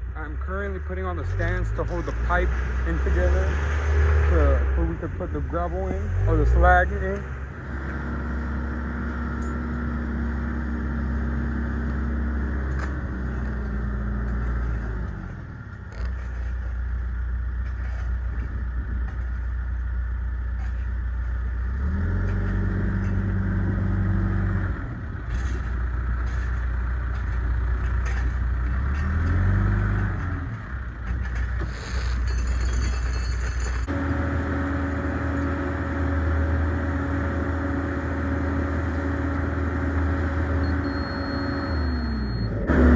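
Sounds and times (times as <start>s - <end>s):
heavy machinery engine revving: 0.8s - 17.8s, 21.5s - 32.4s, 33.8s - 42.9s.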